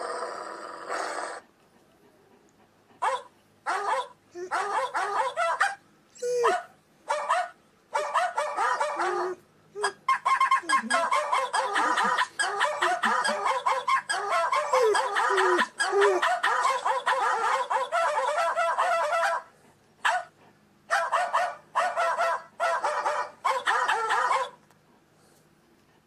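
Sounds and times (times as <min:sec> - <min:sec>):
dog barking and calling: 0:03.0 - 0:20.3, 0:20.9 - 0:24.6.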